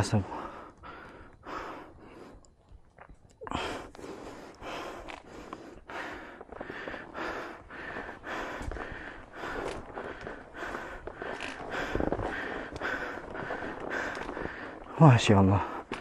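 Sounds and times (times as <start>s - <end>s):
person panting hard: 0.2s - 2.4s, 3.5s - 14.9s.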